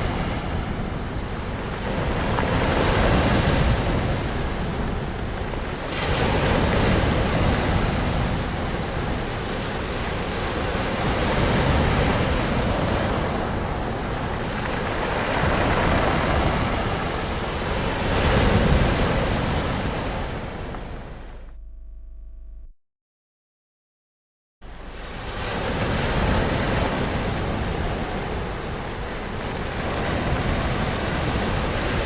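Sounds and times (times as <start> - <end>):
ocean waves breaking: 0.0 - 21.4, 24.7 - 32.0.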